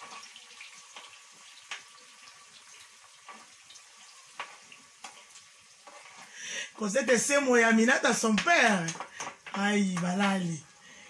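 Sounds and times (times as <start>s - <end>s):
tomatoes sizzling in a pan: 0.0s - 11.0s.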